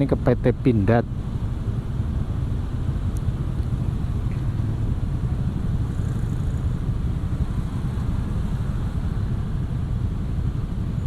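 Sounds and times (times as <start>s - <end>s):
motorcycle engine rumble: 0.0s - 11.0s
road noise: 0.0s - 11.0s
wind buffeting microphone: 0.0s - 11.0s.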